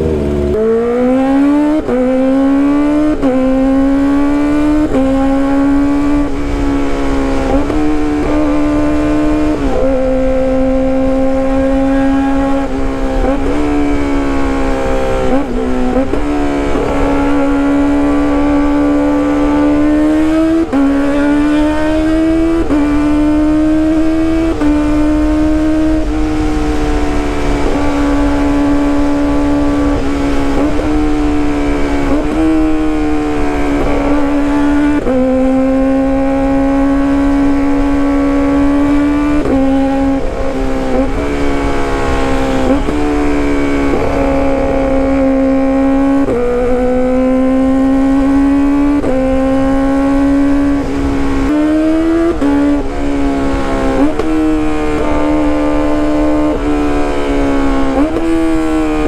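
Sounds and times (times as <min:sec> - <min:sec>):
motorcycle engine revving high: 0:00.0 - 0:59.0.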